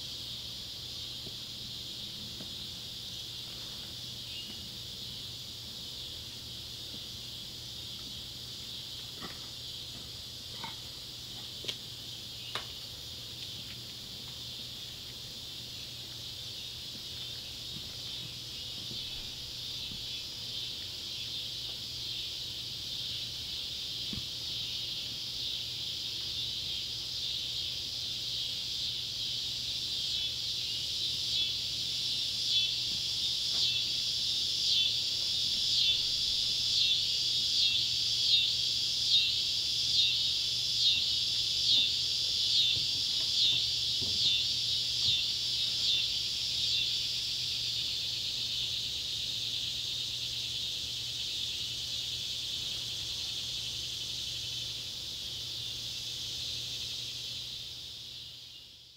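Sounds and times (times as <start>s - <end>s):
cicadas buzzing in chorus: 0.0s - 58.9s
pulsing cicada call: 0.0s - 58.9s.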